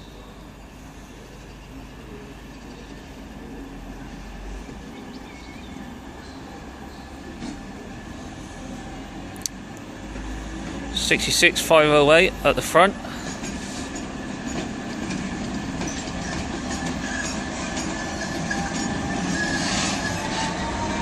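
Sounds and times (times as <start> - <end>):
diesel locomotive engines droning: 0.0 - 21.0.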